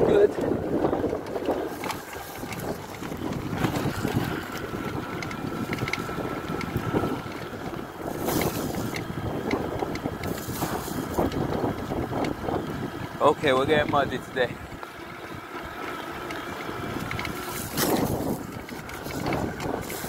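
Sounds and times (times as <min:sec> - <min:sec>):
tyres rumbling on dirt path: 0:00.0 - 0:20.0
wind buffeting microphone: 0:00.0 - 0:20.0.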